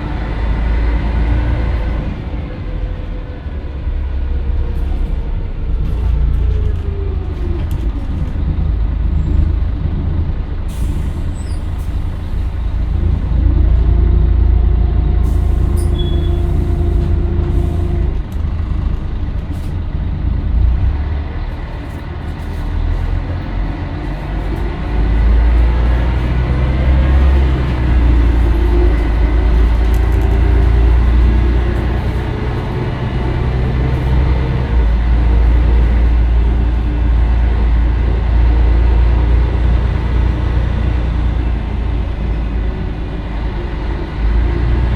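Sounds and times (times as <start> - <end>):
bus diesel engine accelerating: 0.0 - 44.9.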